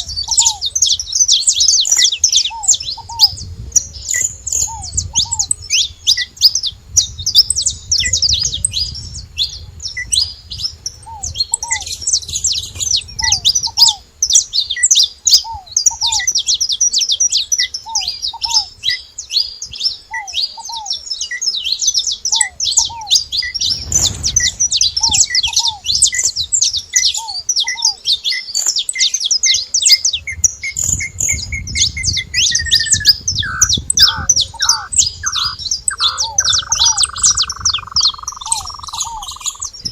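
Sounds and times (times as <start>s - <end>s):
finches chirping and chattering: 0.0s - 39.9s.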